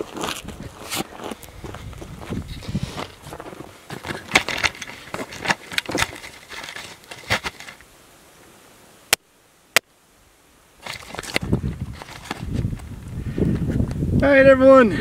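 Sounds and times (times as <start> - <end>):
rustling and crunching of brush and gravel: 0.0 - 8.9, 10.1 - 14.2.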